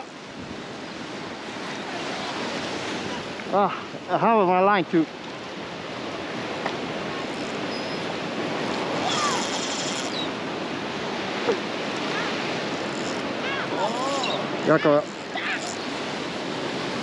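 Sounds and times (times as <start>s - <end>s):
ocean surf: 0.0s - 17.0s
wind: 0.0s - 17.0s.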